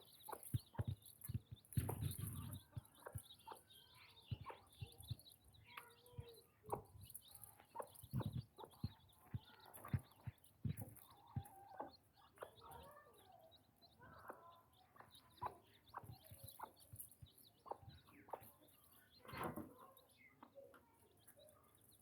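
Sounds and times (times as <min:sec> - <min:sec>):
chickens clucking: 0:00.0 - 0:21.6.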